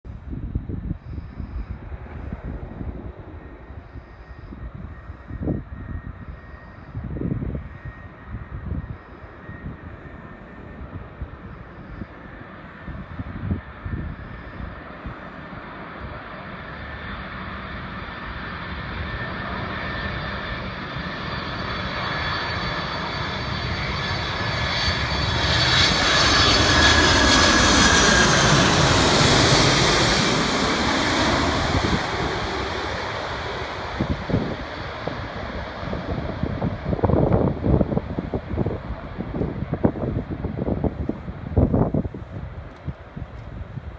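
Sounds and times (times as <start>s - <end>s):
wind buffeting microphone: 0.1s - 43.9s
jet airliner passing overhead: 0.2s - 43.9s.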